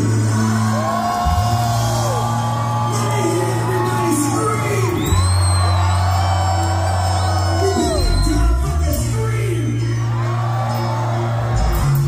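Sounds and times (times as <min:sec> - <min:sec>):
heavy metal band playing: 0:00.0 - 0:12.0.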